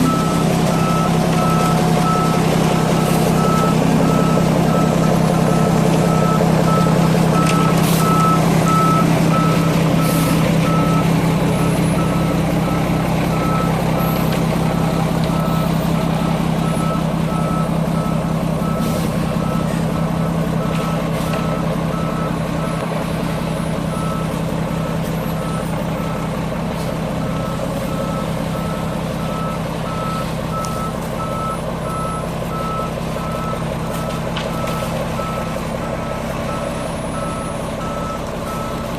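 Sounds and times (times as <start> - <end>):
reverse alarm beeping: 0.0 - 22.8, 27.2 - 38.9
diesel engine running: 0.0 - 38.9.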